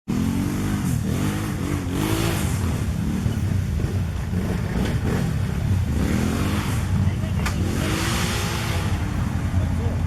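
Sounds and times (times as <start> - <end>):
quad bike engine revving: 0.1 - 10.0.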